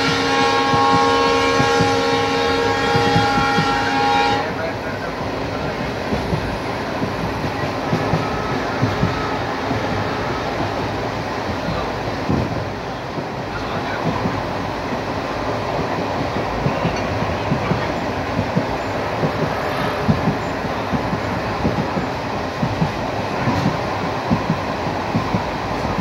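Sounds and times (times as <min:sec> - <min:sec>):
train wheels knocking: 0:00.0 - 0:26.0
train wheels rumbling: 0:00.0 - 0:26.0.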